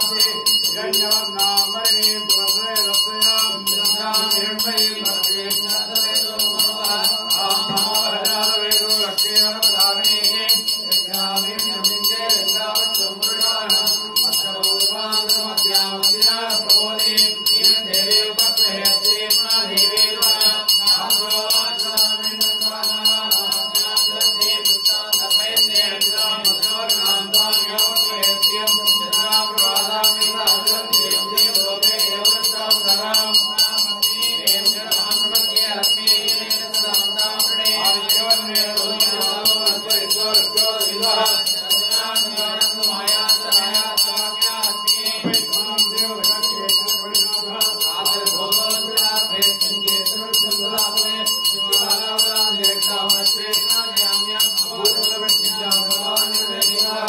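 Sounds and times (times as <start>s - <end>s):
man chanting: 0.0s - 57.0s
temple bell ringing rapidly: 0.0s - 57.0s.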